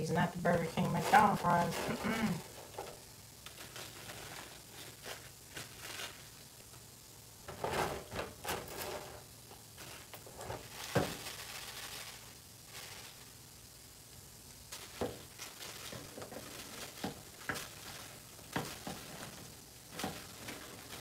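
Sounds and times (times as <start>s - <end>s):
crisp fries rustling: 0.0s - 21.0s.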